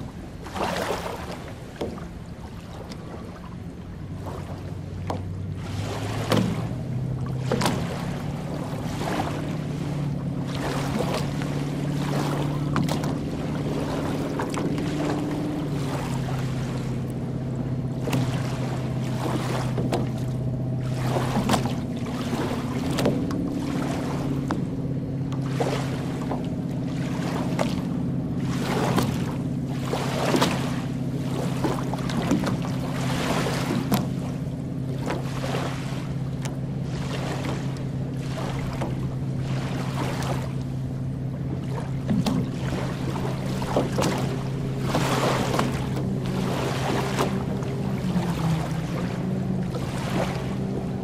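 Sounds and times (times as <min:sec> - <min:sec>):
boat engine humming: 0:00.0 - 0:51.0
waves lapping on shore: 0:00.0 - 0:51.0.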